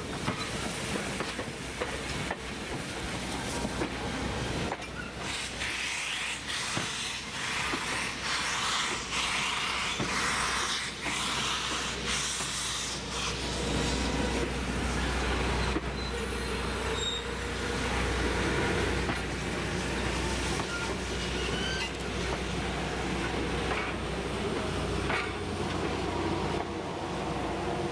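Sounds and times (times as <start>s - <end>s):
train running on rails: 0.0s - 27.9s.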